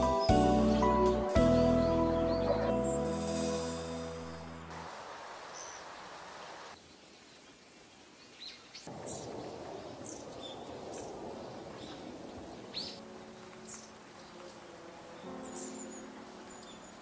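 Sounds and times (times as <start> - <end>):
songbird call notes: 0.0 - 4.8, 5.5 - 7.6, 8.2 - 17.0
outdoor hiss: 3.0 - 17.0.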